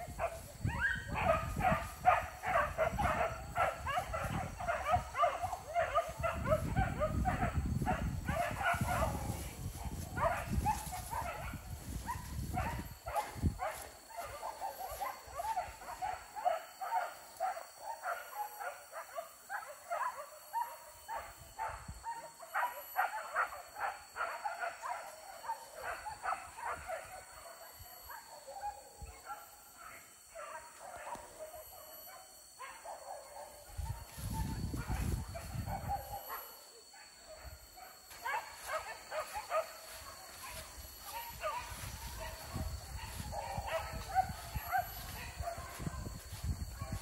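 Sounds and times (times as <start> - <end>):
dogs barking and yelping: 0.0 - 47.0.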